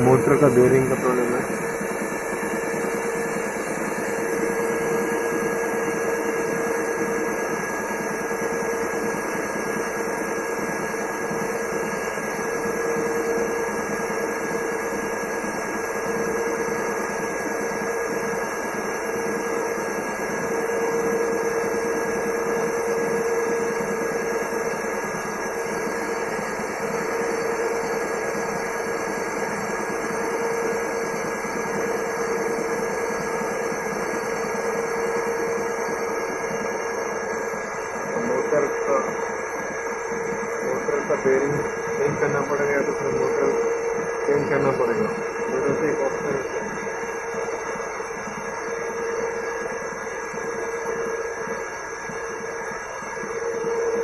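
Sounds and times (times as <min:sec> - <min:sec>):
washing machine motor running: 0:00.0 - 0:54.0.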